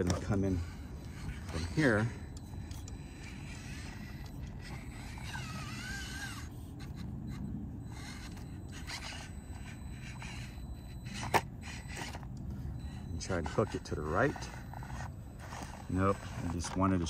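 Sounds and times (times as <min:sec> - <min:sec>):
small electric motor whining: 0:00.0 - 0:17.0
steady low rumble: 0:00.0 - 0:17.0.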